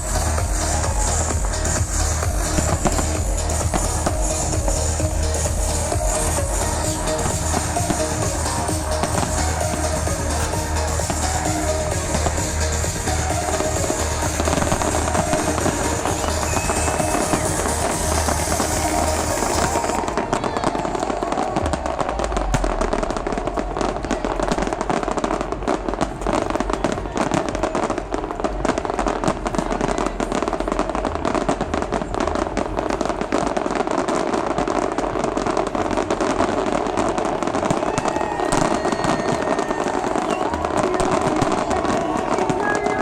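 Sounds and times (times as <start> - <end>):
electronic dance music: 0.0 - 27.0, 35.6 - 43.0
fireworks crackling and popping: 0.0 - 43.0.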